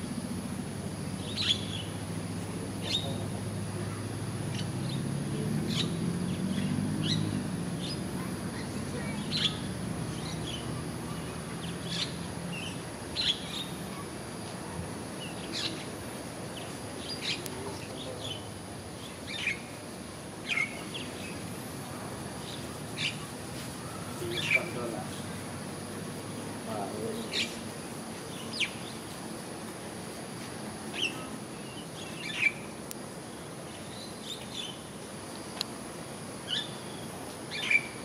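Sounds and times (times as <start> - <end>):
birds chirping: 1.2 - 29.2, 30.8 - 35.6, 36.4 - 38.0.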